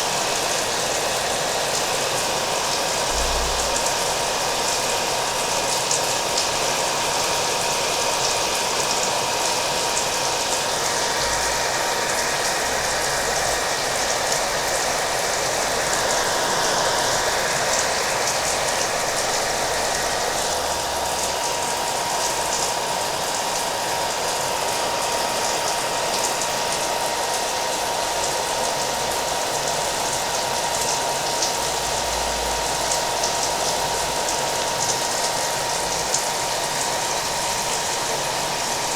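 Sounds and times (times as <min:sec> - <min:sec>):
hair dryer whining: 0:00.0 - 0:38.9
rain: 0:00.0 - 0:38.9.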